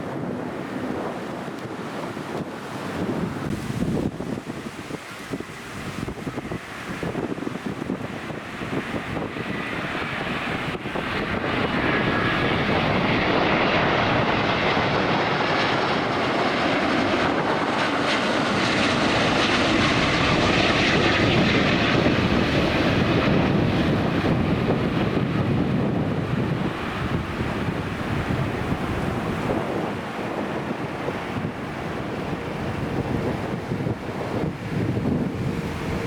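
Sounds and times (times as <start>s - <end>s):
jet airliner engine rushing: 0.0s - 36.0s.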